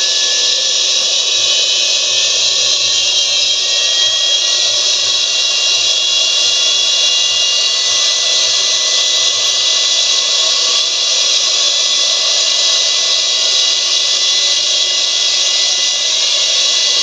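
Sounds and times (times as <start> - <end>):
jet engine hiss and whine: 0.0 - 17.0.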